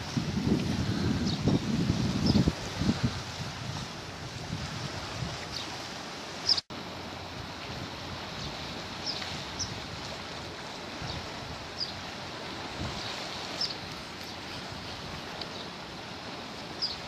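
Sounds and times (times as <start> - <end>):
sea: 0.0 - 17.0
wind on microphone: 0.0 - 17.0.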